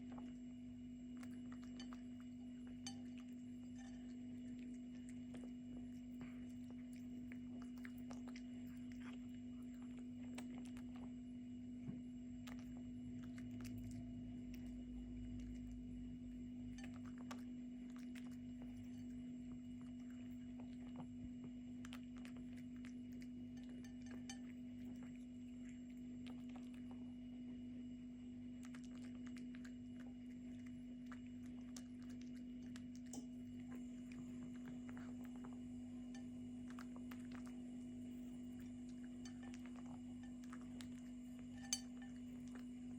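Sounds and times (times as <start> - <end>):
cat chewing: 0.0 - 42.9
steady low hum: 0.0 - 42.9.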